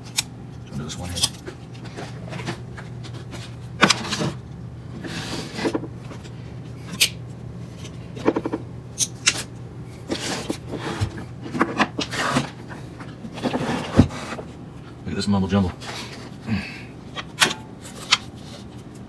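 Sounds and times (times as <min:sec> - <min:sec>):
steady low hum: 0:00.0 - 0:19.0
wires and plastic parts rustling: 0:00.0 - 0:19.0.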